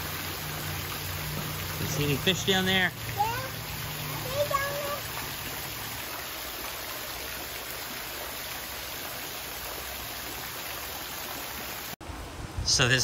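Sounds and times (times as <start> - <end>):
water streams splashing into pond: 0.0 - 12.0.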